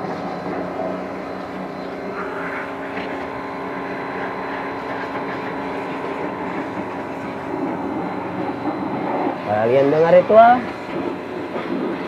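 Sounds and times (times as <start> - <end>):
pressure washer hiss: 0.0 - 12.0
pressure washer motor drone: 0.0 - 12.0.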